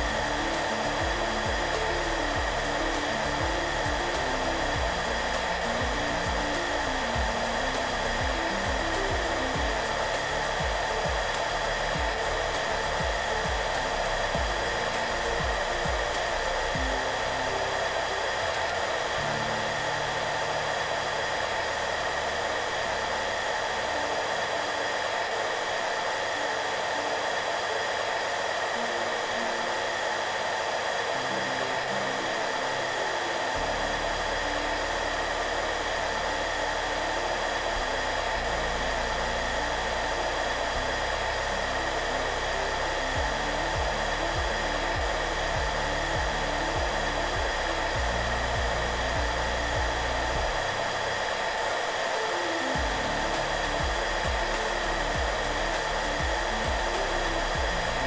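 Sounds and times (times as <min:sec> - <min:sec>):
hair dryer running: 0:00.0 - 0:58.0
soft background music: 0:00.0 - 0:58.0.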